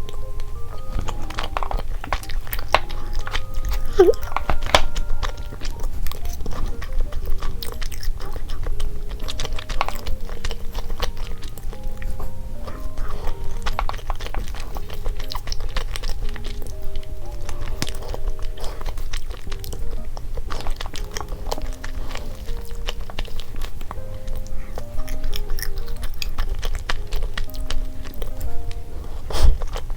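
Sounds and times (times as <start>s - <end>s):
close chewing mouth sounds: 0.0s - 29.9s
light cute background music: 0.0s - 29.9s.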